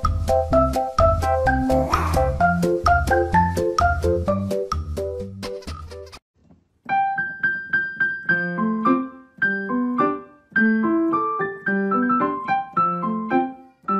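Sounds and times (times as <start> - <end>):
piano music: 0.0 - 5.5, 6.9 - 13.9.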